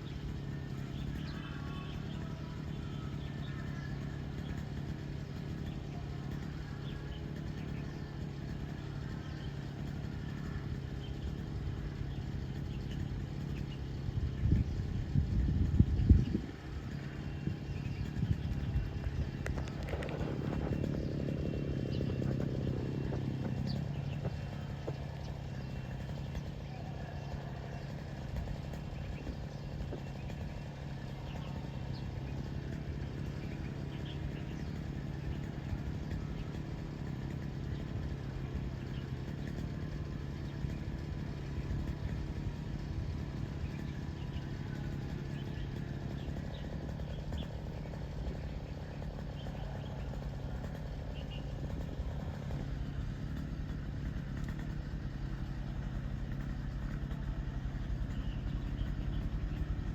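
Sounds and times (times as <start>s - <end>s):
low engine hum: 0.0s - 59.9s
small birds chirping: 0.0s - 59.9s.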